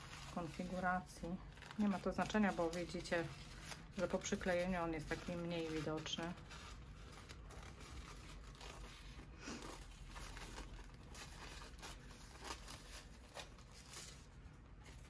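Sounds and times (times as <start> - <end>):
paper rustling and scraping: 0.0 - 15.0.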